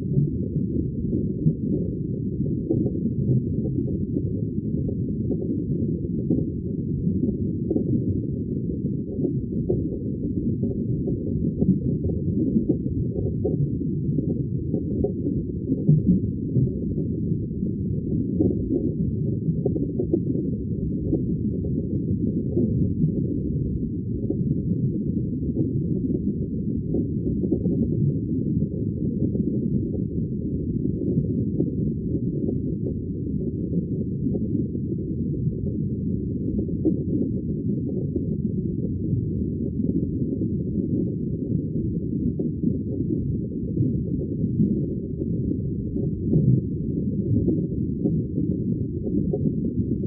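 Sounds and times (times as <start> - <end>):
aquarium water bubbling: 0.0 - 50.0.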